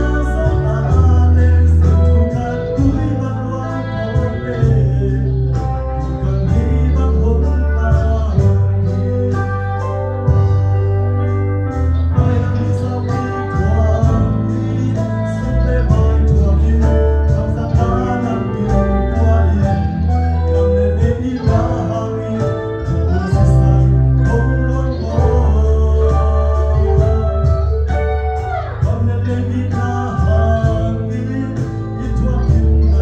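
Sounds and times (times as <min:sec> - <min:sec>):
man singing into microphone: 0:00.0 - 0:10.6, 0:12.0 - 0:33.0
electric bass: 0:00.0 - 0:33.0
electric guitar chords: 0:00.0 - 0:33.0.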